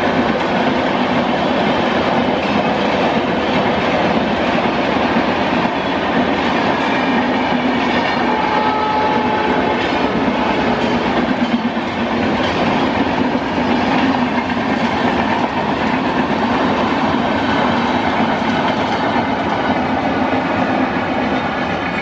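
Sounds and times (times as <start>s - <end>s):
train wheels running on rails: 0.0s - 22.0s.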